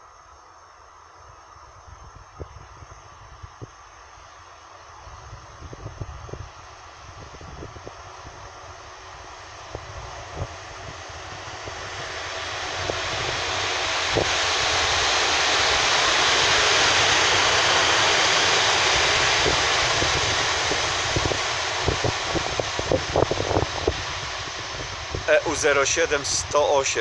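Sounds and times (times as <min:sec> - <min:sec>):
electric locomotive passing: 0:00.0 - 0:27.0.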